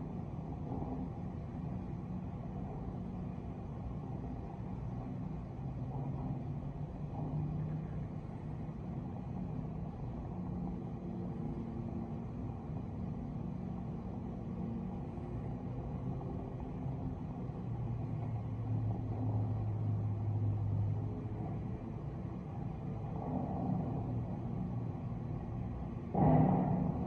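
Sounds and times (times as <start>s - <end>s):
low hum: 0.0s - 27.0s
muffled city traffic rumble: 0.0s - 27.0s.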